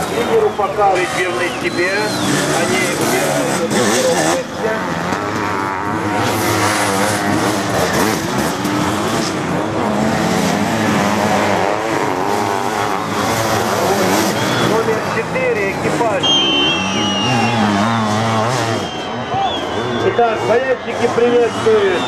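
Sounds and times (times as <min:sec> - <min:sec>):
motorcycle engines revving hard: 0:00.0 - 0:22.0.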